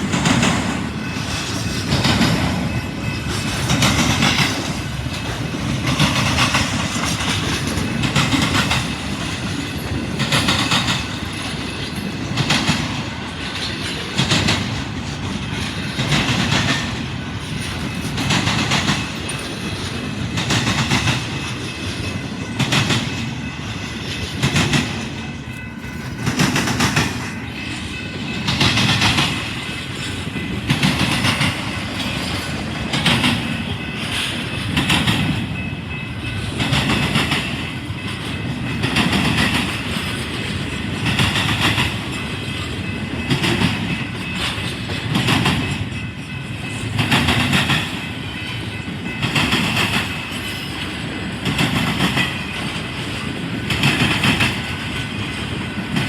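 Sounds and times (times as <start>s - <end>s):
train rumble: 0.0s - 56.0s
train wheels clattering over rail joints: 0.0s - 56.0s.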